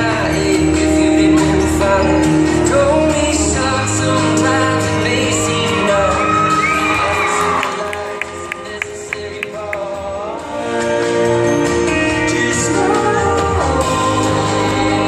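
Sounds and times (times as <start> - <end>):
song with singing: 0.0 - 15.0.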